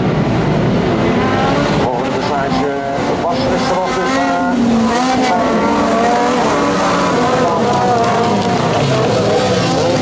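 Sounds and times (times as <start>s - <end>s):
racing car engines revving: 0.0s - 10.0s.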